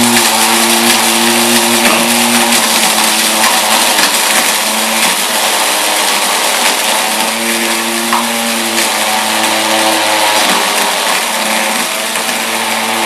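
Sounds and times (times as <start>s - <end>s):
coffee grinder motor whirring: 0.0s - 13.0s.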